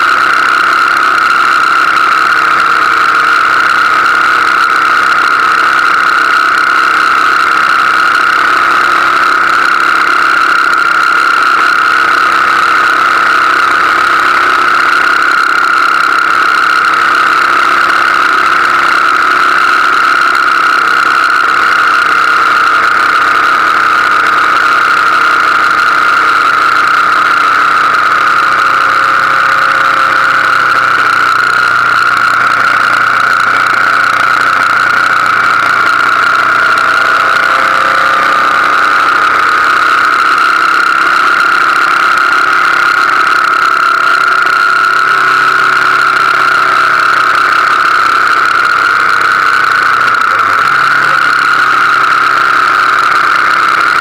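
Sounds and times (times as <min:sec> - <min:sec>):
high whine: 0:00.0 - 0:54.0
motorcycle engine riding: 0:00.0 - 0:54.0.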